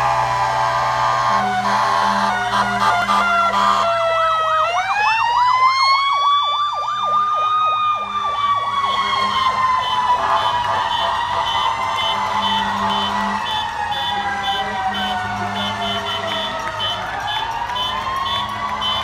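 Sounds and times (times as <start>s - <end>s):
fire engine siren yelping: 0.0s - 19.0s
siren winding up and down: 0.0s - 19.0s.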